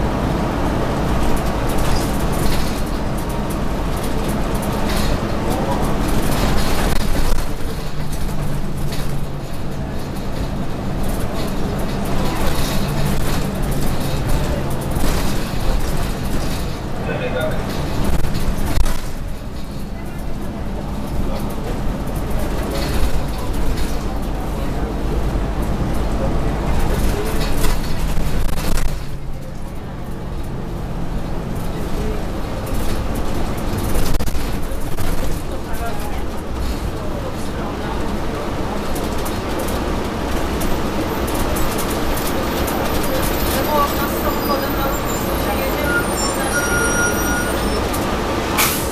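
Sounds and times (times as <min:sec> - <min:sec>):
bus engine drone: 0:00.0 - 0:48.9
road and body noise: 0:00.0 - 0:48.9.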